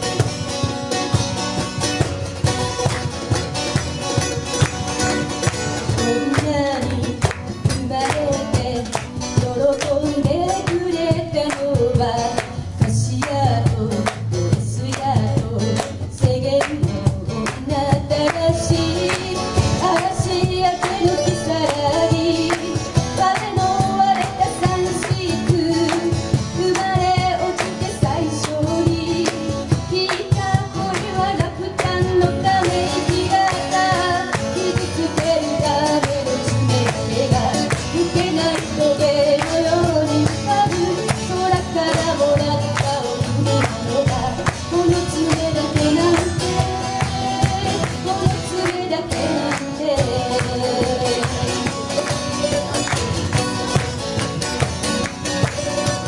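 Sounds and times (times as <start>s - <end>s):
acoustic guitars: 0.0s - 56.0s
cajon beating a rhythm: 0.0s - 56.0s
woman singing into microphone: 5.2s - 53.0s.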